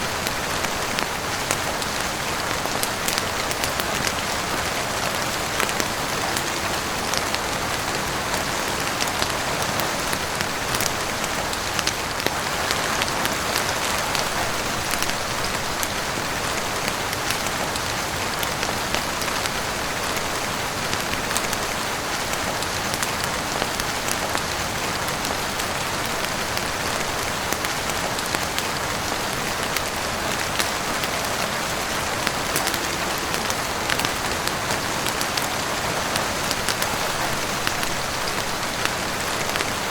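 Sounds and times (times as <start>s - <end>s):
heavy rain hiss: 0.0s - 39.9s
raindrop ticks: 0.2s - 39.9s.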